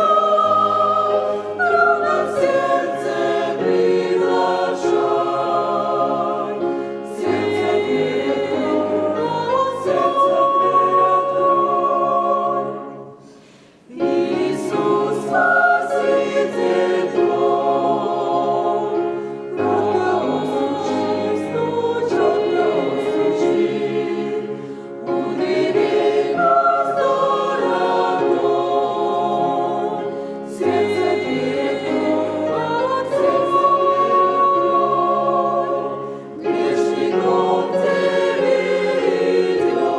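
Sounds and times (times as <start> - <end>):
church choir singing a hymn: 0.0 - 39.9.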